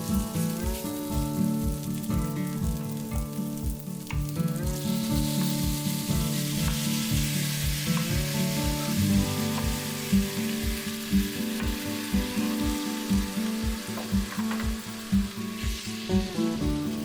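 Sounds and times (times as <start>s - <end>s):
background music with steady beat: 0.0s - 17.0s
food sizzling in a pan: 0.0s - 17.0s.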